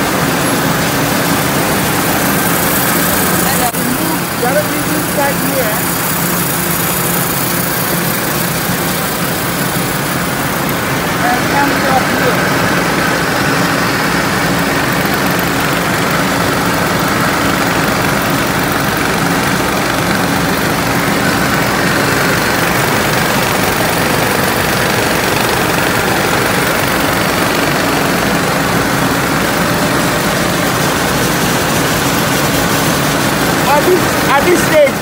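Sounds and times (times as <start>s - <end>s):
machinery mechanical din: 0.0s - 35.0s
steady hum: 0.0s - 35.0s.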